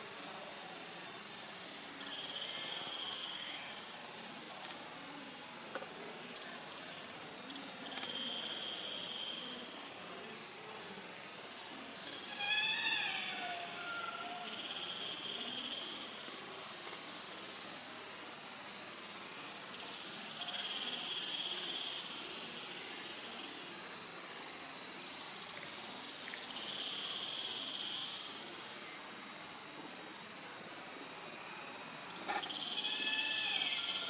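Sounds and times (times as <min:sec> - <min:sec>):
crickets trilling: 0:00.0 - 0:34.0
lower insect trill: 0:00.0 - 0:34.0.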